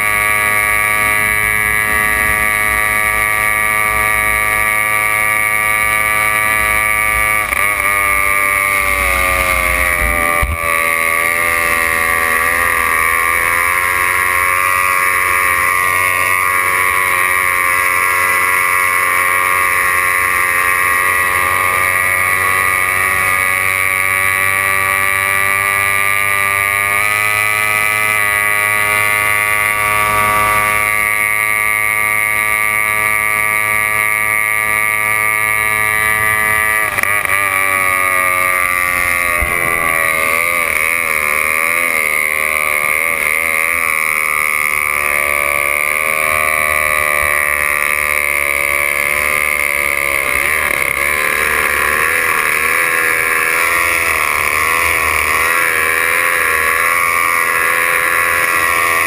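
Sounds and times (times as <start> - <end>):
high-pitched boat engine: 0.0 - 59.0.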